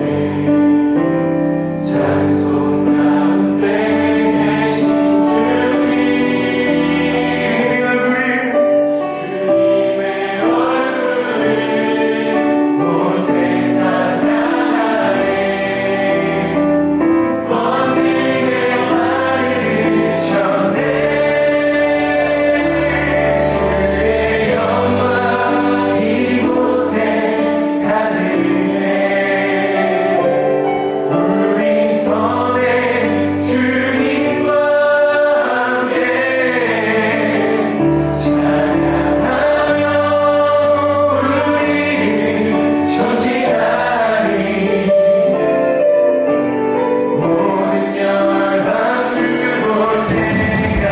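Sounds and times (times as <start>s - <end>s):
congregation singing: 0.0s - 50.9s
vocalists singing: 0.0s - 50.9s
worship band playing: 0.0s - 50.9s.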